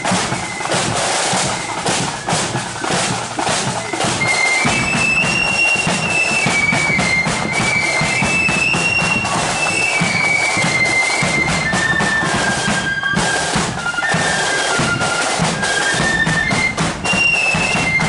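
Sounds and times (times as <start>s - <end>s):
marching drums beating: 0.0s - 18.0s
shrill flute melody: 0.0s - 18.0s.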